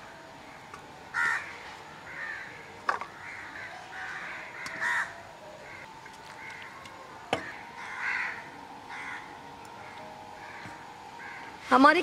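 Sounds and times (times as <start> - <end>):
crows cawing: 1.1 - 6.8, 7.4 - 11.7.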